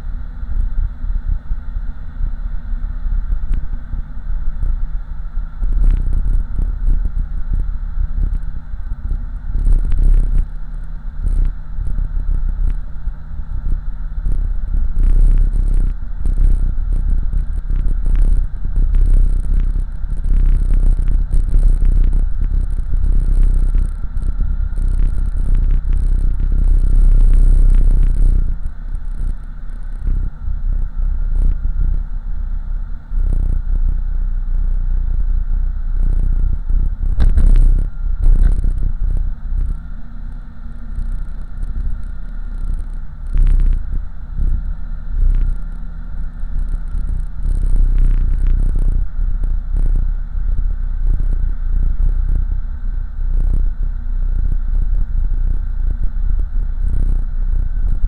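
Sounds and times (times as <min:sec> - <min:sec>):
road noise inside car: 0:00.0 - 0:58.0
car engine deep rumble: 0:05.5 - 0:58.0.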